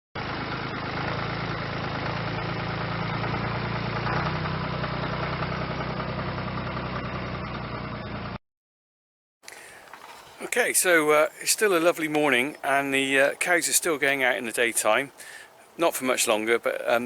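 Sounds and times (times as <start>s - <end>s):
tractor engine idling: 0.2s - 8.3s, 9.5s - 17.0s.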